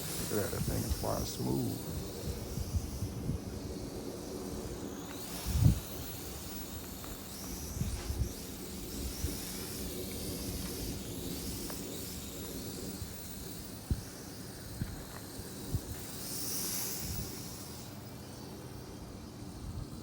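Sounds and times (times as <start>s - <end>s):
wind buffeting microphone: 0.0s - 16.2s
drone motors whining: 0.0s - 20.0s.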